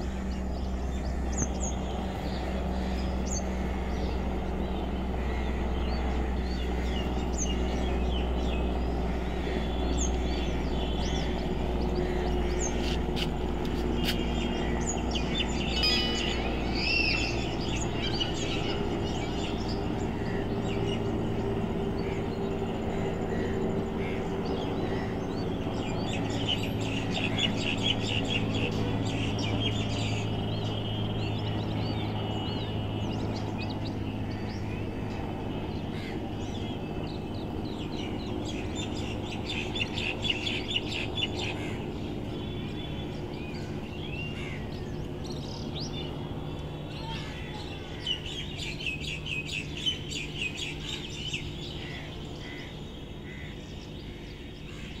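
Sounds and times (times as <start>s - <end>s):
helicopter humming overhead: 0.0s - 55.0s
small birds chirping: 0.0s - 55.0s.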